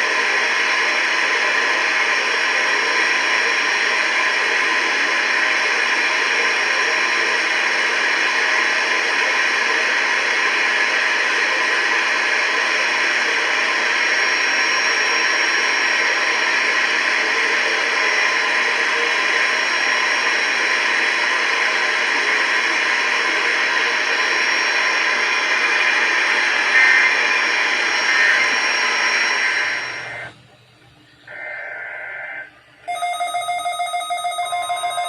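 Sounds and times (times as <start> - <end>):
radio static hiss: 0.0 - 30.4, 31.3 - 32.8.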